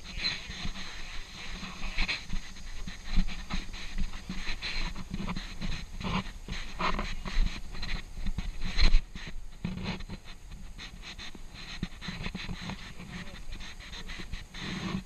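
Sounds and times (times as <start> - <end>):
footsteps on paved path: 0.0 - 15.0
heavy breathing: 0.0 - 15.0.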